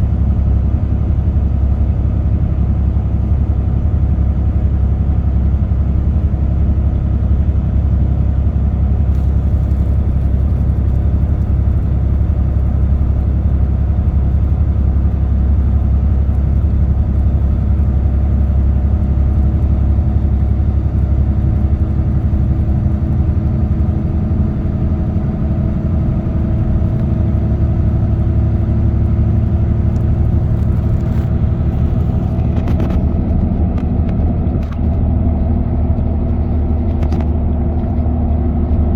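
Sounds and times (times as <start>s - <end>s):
engine drone: 0.0s - 38.9s
road and tyre rumble: 0.0s - 38.9s.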